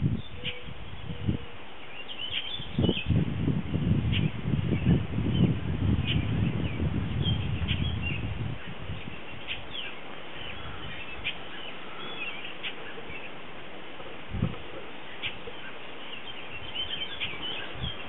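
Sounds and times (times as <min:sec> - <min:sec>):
small birds chirping: 0:00.0 - 0:03.2, 0:04.0 - 0:18.0
wind buffeting microphone: 0:00.0 - 0:18.0.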